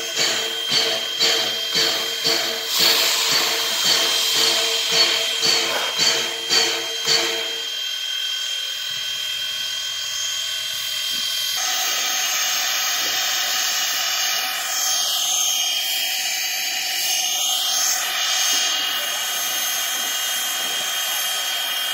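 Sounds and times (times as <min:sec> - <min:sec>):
high steady whine: 0:00.0 - 0:21.9
steam hissing: 0:00.0 - 0:21.9.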